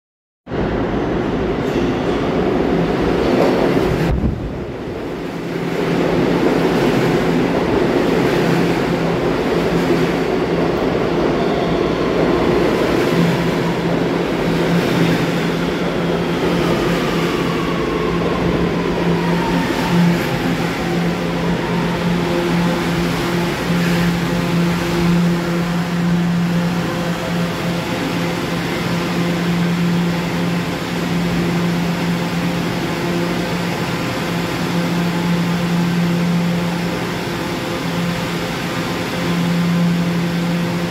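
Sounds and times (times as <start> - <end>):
subway cars on rails: 0.4 - 40.9.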